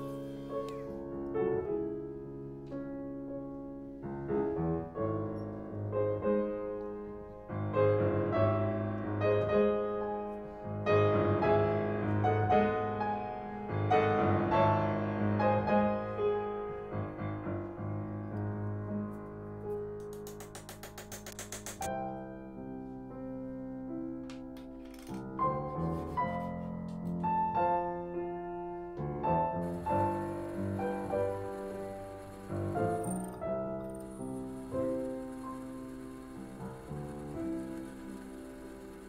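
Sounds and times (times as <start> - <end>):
solo classical piano: 0.0 - 39.0.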